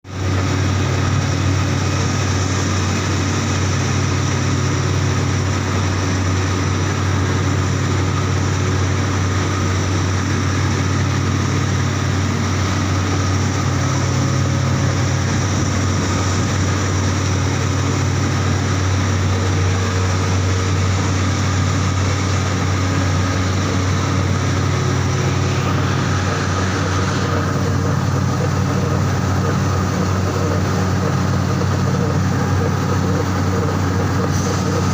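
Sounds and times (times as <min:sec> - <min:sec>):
heavy machinery humming: 0:00.0 - 0:34.9.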